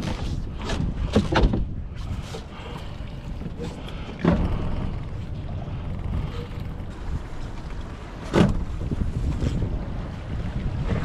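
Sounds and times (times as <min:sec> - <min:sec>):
low rumble aboard boat: 0:00.0 - 0:11.0.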